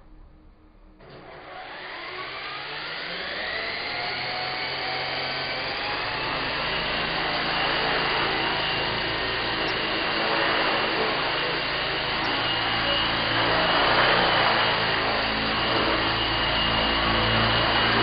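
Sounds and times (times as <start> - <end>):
rc helicopter motor whine: 1.0 - 18.0
rotor blades whirring: 1.0 - 18.0.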